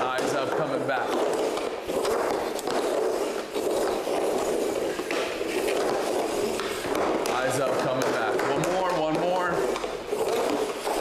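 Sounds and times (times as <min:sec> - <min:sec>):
hockey stick scraping on ice tiles: 0:00.0 - 0:11.0
puck knocking on stick blade: 0:00.0 - 0:11.0.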